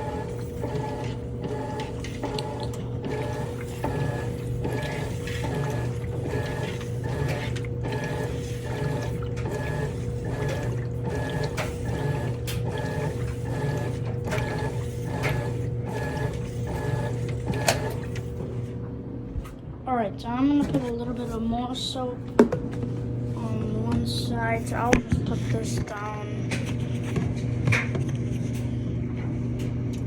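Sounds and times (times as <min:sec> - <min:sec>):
washing machine motor whining: 0:00.0 - 0:30.0.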